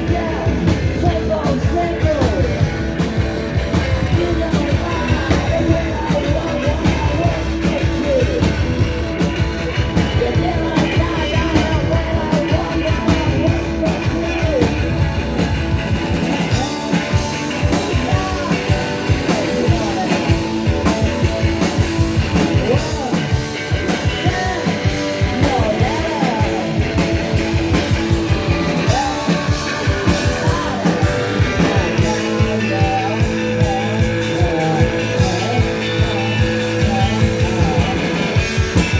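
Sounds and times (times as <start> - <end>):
person singing: 0.0 - 38.9
rock band playing: 0.0 - 38.9.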